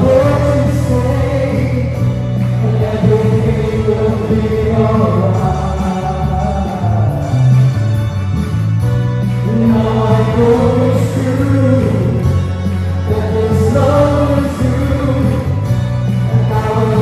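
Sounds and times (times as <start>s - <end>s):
voices singing: 0.0s - 7.5s, 9.4s - 17.0s
electric bass guitar: 0.0s - 17.0s
keyboard: 0.0s - 17.0s.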